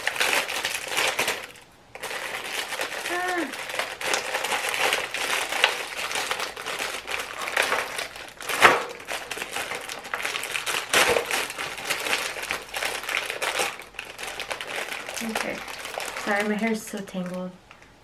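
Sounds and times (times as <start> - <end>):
sharp plastic crack: 0.0 - 17.9
plastic wrapping crinkling: 0.0 - 18.0.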